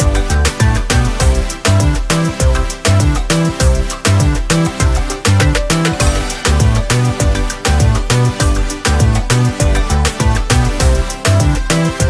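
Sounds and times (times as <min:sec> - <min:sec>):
dance music with bass line: 0:00.0 - 0:12.0.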